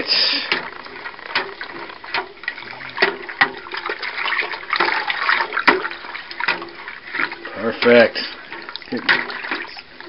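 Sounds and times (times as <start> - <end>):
liquid swishing in a pot: 0.0 - 10.0.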